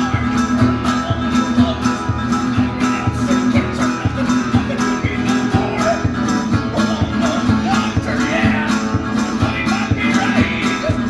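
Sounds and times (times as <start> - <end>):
guitar playing fast: 0.0 - 11.0
steady percussive beat: 0.0 - 11.0.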